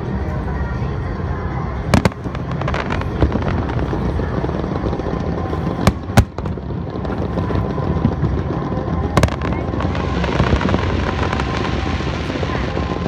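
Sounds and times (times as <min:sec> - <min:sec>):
fireworks rumble and crackle: 0:00.0 - 0:13.0
fireworks sharp bangs: 0:01.9 - 0:13.0.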